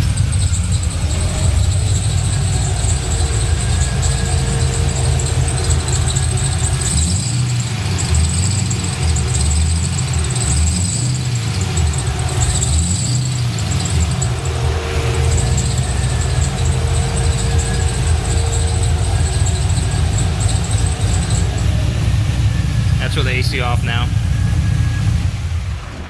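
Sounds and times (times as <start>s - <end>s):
drive belt squealing: 0.0s - 26.0s
engine idling rumble: 0.0s - 26.0s.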